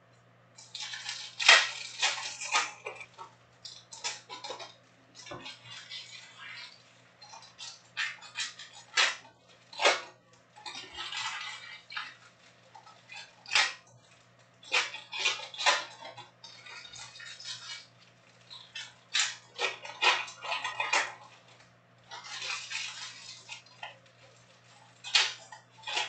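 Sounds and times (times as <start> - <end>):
wrappers crinkling and tearing: 0.6 - 26.0.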